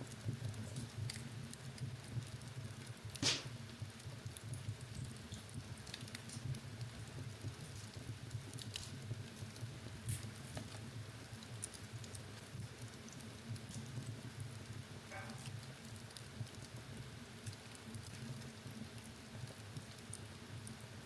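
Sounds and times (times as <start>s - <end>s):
fire low rumble: 0.0s - 21.0s
wood fire crackling and popping: 0.0s - 21.0s.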